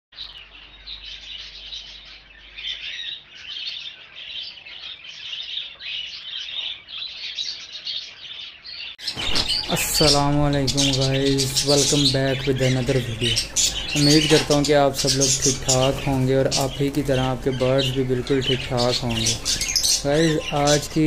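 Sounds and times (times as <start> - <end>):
flock of small birds chirping: 0.2 - 21.0.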